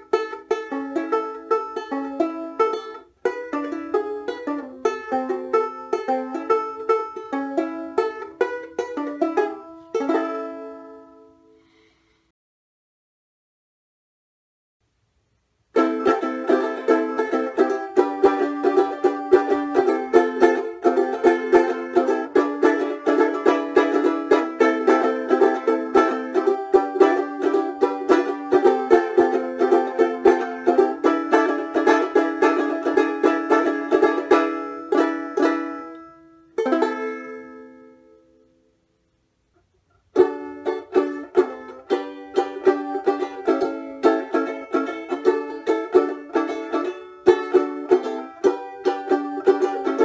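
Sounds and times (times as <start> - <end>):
banjo ukulele picking and strumming: 0.0 - 11.3, 15.7 - 38.3, 40.0 - 50.0.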